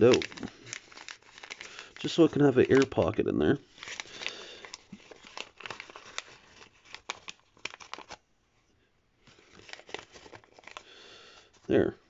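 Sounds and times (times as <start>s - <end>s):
paper crinkling: 0.0s - 8.2s, 9.2s - 11.9s.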